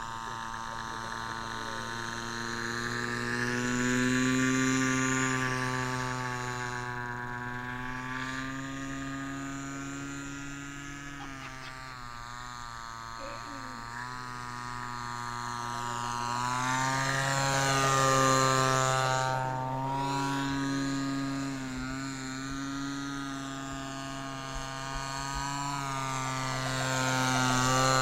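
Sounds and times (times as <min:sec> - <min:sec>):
model aircraft motor and propeller: 0:00.0 - 0:28.0.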